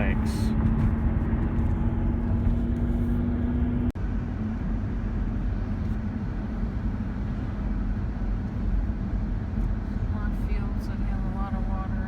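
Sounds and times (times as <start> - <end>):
car road and tyre noise: 0.0 - 12.0.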